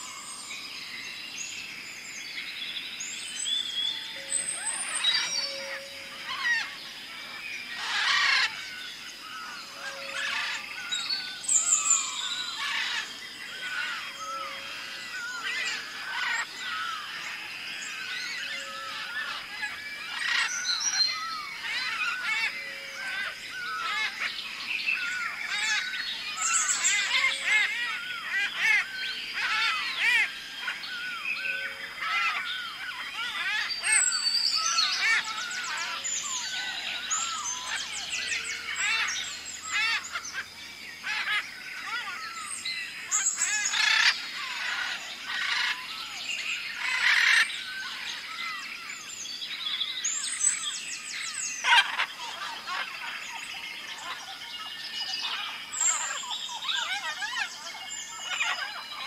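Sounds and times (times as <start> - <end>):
chorus of birds chirping: 0.0 - 59.0.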